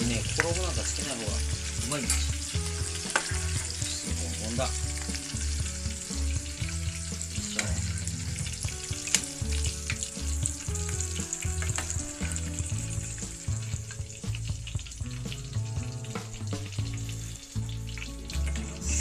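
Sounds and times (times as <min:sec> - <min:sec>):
oil popping and crackling: 0:00.0 - 0:19.0
prawns sizzling in hot oil: 0:00.0 - 0:19.0.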